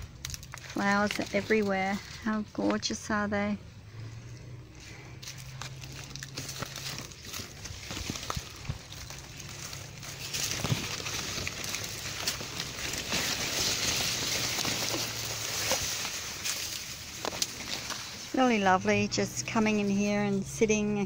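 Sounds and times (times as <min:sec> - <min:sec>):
leaves rustling and crackling: 0:00.0 - 0:03.1, 0:04.1 - 0:21.0.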